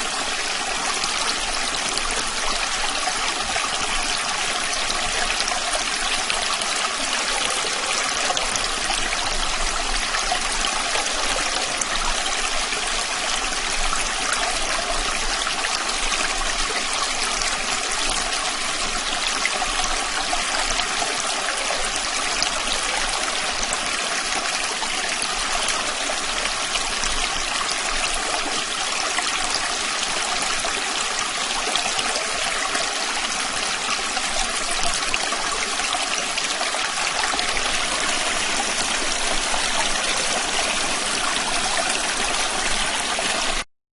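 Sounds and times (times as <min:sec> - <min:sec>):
small stream trickling: 0:00.0 - 0:43.7.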